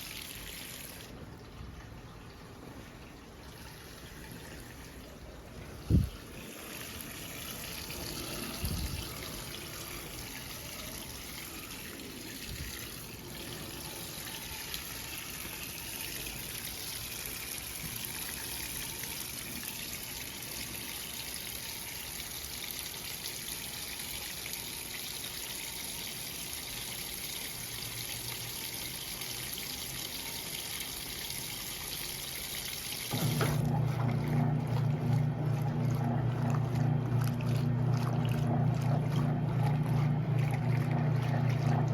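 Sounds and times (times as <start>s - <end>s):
washing machine filling with water: 0.0s - 41.9s
washing machine motor humming: 0.0s - 41.9s.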